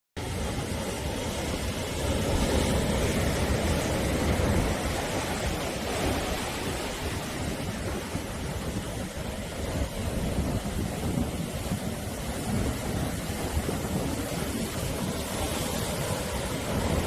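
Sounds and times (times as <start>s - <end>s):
waves washing onto shore: 0.2s - 17.0s.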